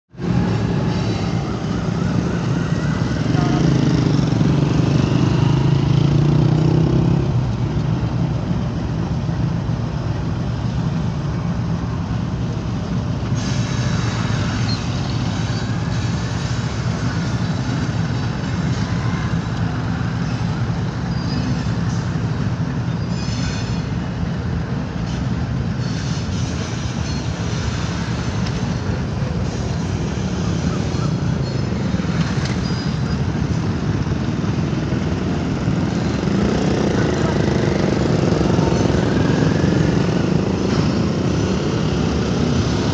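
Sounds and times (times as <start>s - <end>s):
freight wagons rumbling on rails: 0.1s - 42.9s
locomotive engine drone: 0.1s - 42.9s
high wheel squeals: 0.2s - 6.1s, 13.2s - 24.2s, 25.0s - 42.9s.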